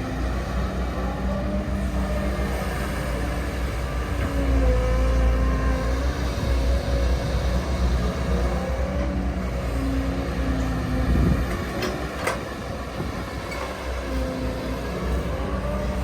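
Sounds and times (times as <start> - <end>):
excavator diesel rumble: 0.0 - 16.0.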